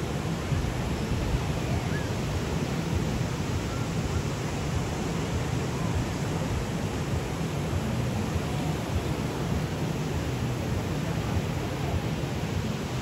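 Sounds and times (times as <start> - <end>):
waves breaking on beach: 0.0 - 13.0
wind on microphone: 0.0 - 13.0.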